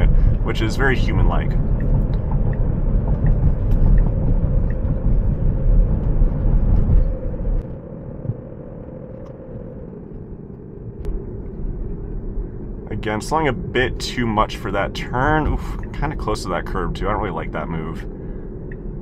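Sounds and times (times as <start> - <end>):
road and tyre rumble inside car: 0.0 - 19.0.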